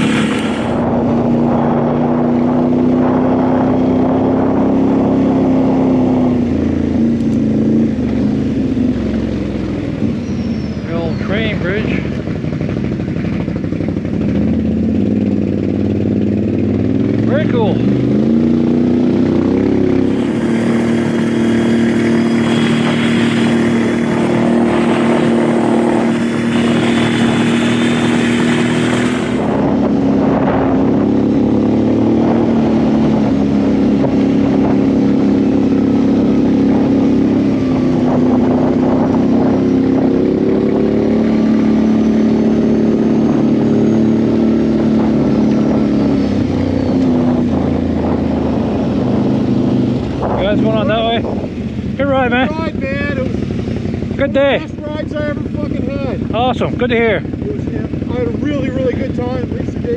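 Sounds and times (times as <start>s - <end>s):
rushing noise: 0.0s - 7.1s, 16.9s - 58.1s
atv engine running: 0.0s - 59.9s.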